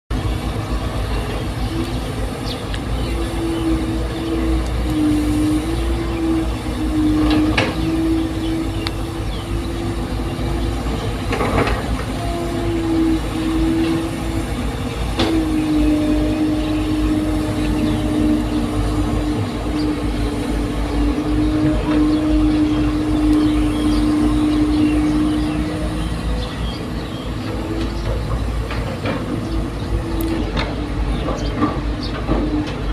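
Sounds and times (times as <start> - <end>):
excavator engine rumbling and whining: 0.1 - 32.9.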